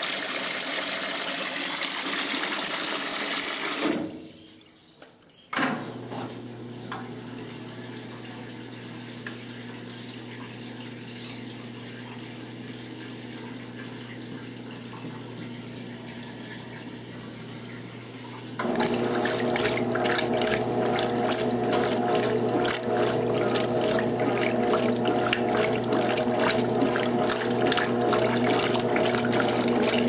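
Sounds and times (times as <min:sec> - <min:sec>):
water splashing in washing machine: 0:00.0 - 0:04.7, 0:05.8 - 0:30.0
washing machine humming: 0:05.6 - 0:30.0.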